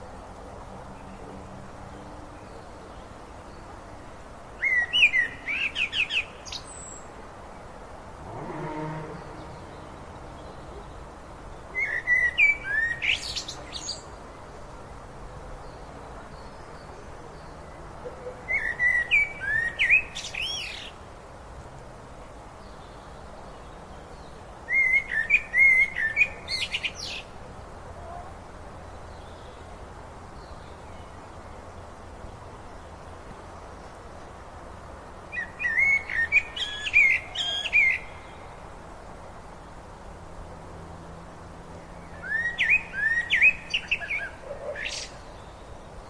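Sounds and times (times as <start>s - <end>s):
songbird singing: 0.0s - 21.2s, 22.1s - 46.0s
river flowing: 0.0s - 46.0s.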